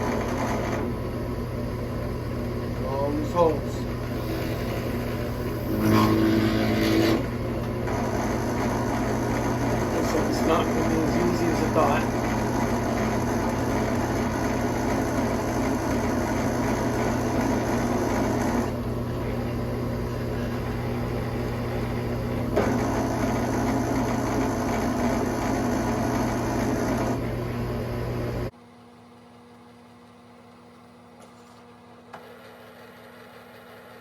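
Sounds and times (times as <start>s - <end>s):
drill press motor humming: 0.0s - 28.5s.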